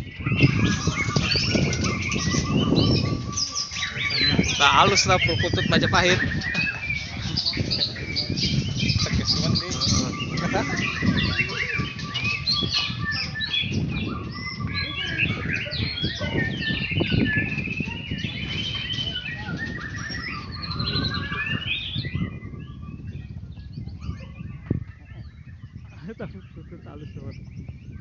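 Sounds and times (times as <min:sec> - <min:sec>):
songbirds chirping and trilling: 0:00.0 - 0:28.0.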